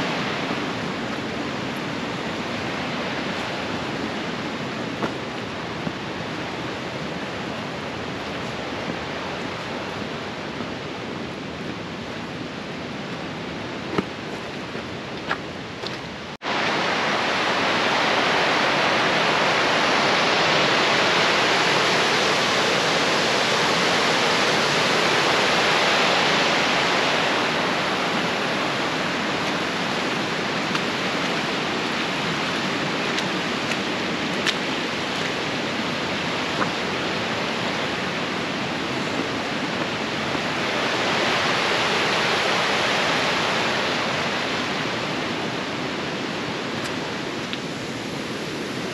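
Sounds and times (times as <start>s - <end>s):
mountain stream rushing: 0.0s - 48.9s.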